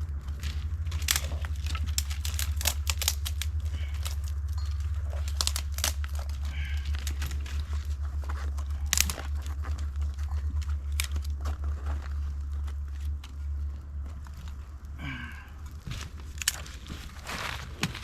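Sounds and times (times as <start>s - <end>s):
campfire crackling and popping: 0.0s - 18.0s
steady low hum: 0.0s - 18.0s.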